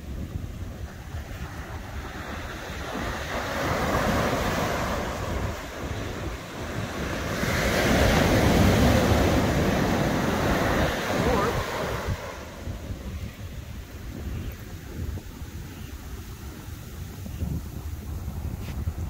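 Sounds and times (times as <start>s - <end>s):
surf breaking on a beach: 0.0s - 19.0s
wind buffeting microphone: 0.0s - 19.0s.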